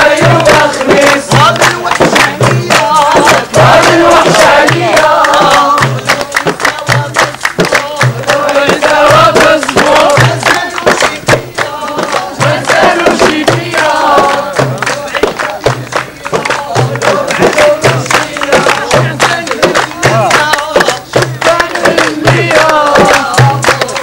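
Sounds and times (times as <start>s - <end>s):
group singing a chant: 0.0s - 24.0s
percussive beat: 0.0s - 24.0s.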